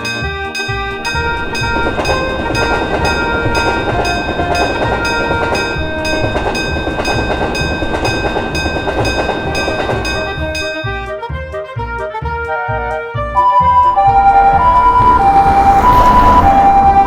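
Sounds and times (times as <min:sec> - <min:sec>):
crossing bell ringing: 0:00.0 - 0:11.1, 0:13.5 - 0:17.0
train rumbling past: 0:00.0 - 0:11.1, 0:13.4 - 0:17.0.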